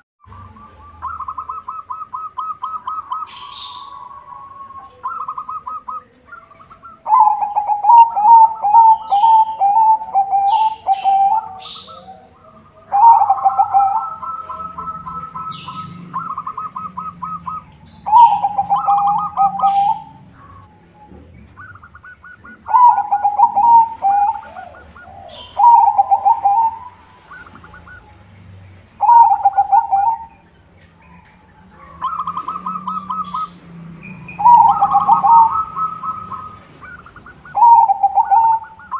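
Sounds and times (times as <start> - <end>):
dove cooing: 0.2 - 38.9.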